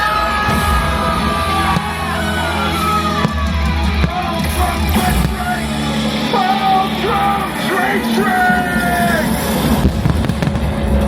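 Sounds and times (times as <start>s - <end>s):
dramatic music over loudspeakers: 0.0s - 11.0s.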